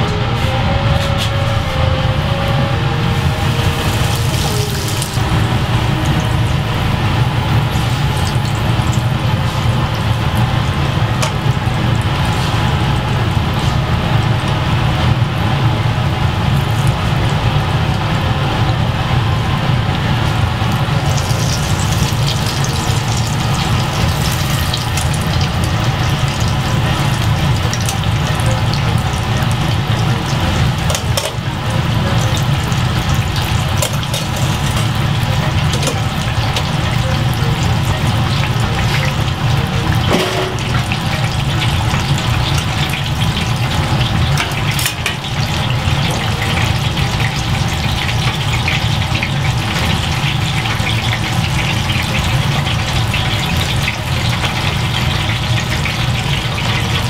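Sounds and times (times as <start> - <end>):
low hum: 0.0 - 47.9
cutlet sizzling in hot oil: 3.1 - 18.1, 20.2 - 57.0.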